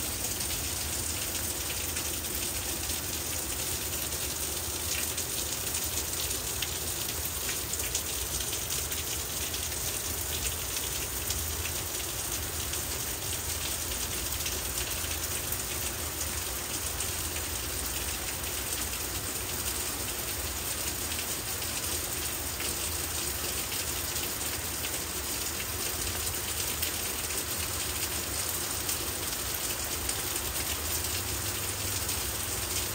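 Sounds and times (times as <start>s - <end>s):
rain on leaves: 0.0s - 32.9s.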